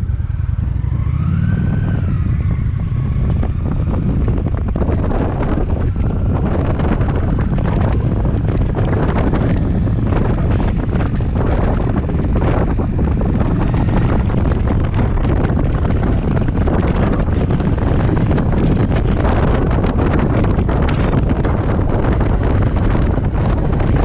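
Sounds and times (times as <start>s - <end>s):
motorcycle running: 0.0s - 24.0s
road noise: 0.0s - 24.0s
wind buffeting microphone: 0.0s - 24.0s.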